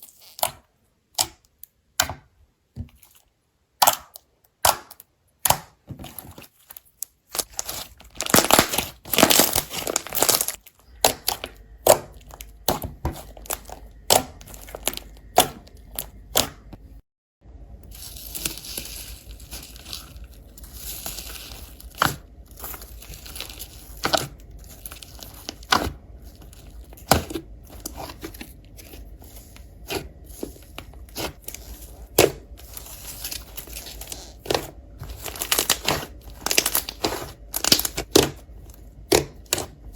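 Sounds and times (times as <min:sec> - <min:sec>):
slime squishing and popping: 0:03.8 - 0:06.2, 0:07.3 - 0:16.8, 0:17.9 - 0:39.8.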